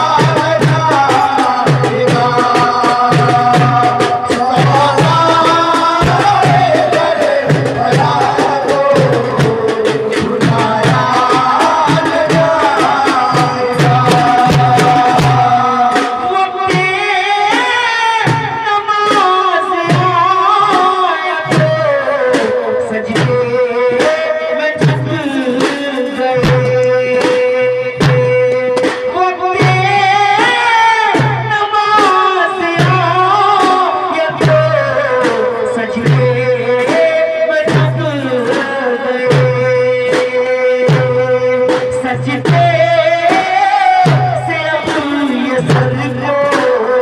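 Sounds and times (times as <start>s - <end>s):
frame drum beat: 0.0s - 47.0s
man singing through microphone: 0.0s - 47.0s.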